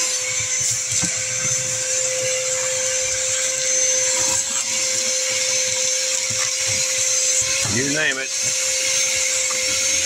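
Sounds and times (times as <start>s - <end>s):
vacuum cleaner whining: 0.0s - 10.0s.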